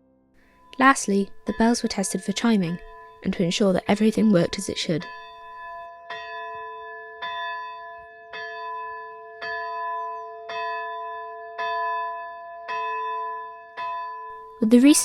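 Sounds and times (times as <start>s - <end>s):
church bell chiming: 0.4s - 15.0s.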